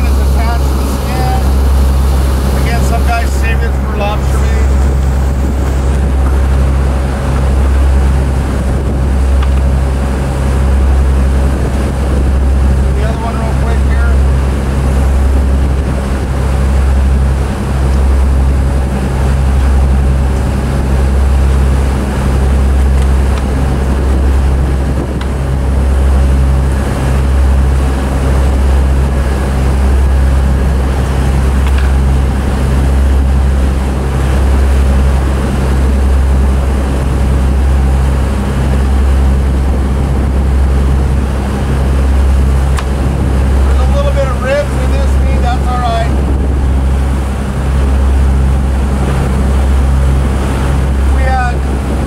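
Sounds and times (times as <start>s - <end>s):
motorboat engine drone: 0.0s - 52.0s
water rushing in wake: 0.0s - 52.0s.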